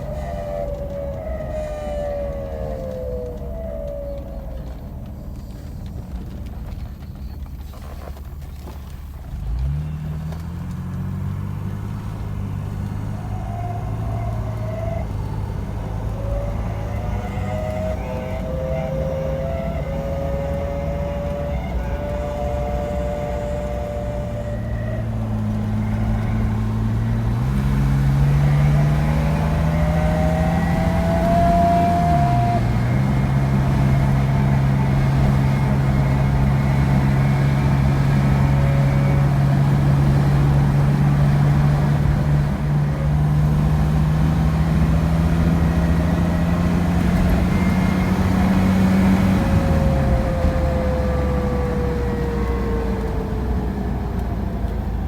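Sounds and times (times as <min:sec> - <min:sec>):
bearing whine: 0:00.0 - 0:55.0
car driving low drone: 0:00.0 - 0:55.0.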